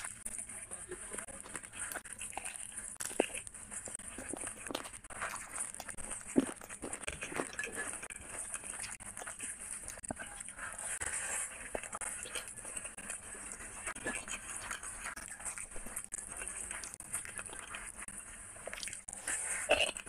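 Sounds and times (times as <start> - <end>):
rice squishing on glass plate: 0.0 - 20.0
wet chewing and lip smacking: 1.2 - 20.0.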